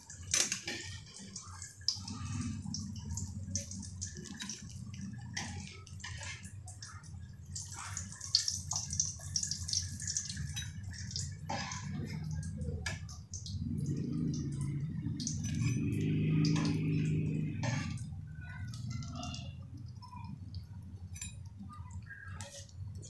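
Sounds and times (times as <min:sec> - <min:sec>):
oil sizzling while deep-frying: 0:00.0 - 0:23.0.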